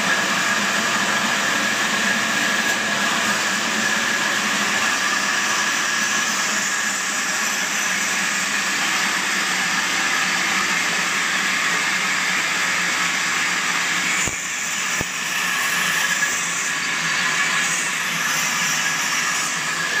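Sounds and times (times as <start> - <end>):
band sawmill sawing a log: 0.0 - 20.0.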